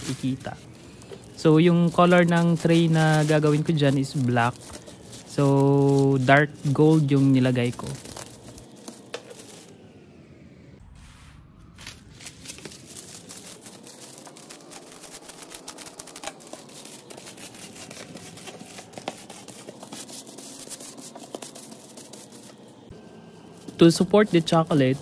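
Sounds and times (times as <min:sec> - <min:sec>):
scissors cutting foil: 0:00.0 - 0:09.7, 0:12.0 - 0:22.7
foil crinkling and rustling: 0:00.0 - 0:09.8, 0:11.8 - 0:25.0.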